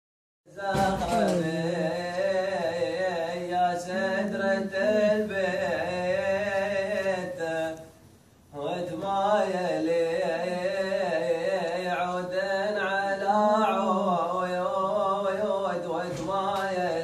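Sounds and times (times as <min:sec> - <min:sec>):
man chanting poetry: 0:00.5 - 0:07.9, 0:08.5 - 0:17.0.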